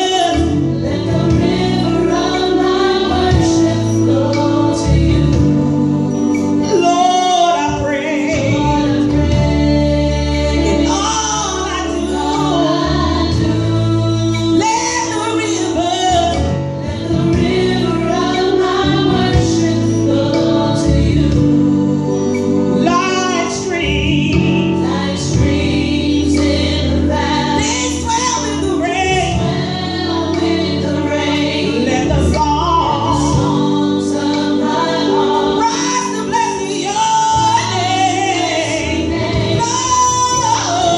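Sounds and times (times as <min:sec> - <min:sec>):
sustained instrumental accompaniment: 0:00.0 - 0:40.9
woman singing gospel: 0:00.0 - 0:40.9.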